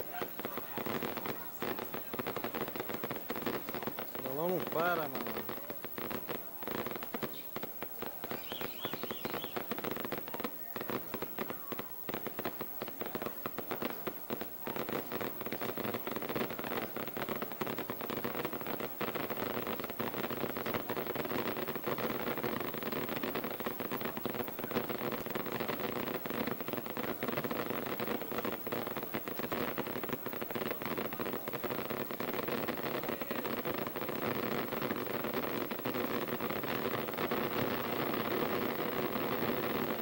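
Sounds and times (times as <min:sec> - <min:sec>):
firecrackers crackling: 0:00.0 - 0:40.0.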